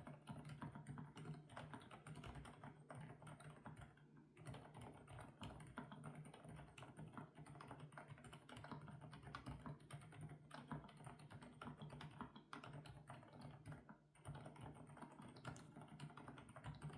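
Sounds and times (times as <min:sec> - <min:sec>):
mechanical keyboard typing: 0:00.0 - 0:16.9.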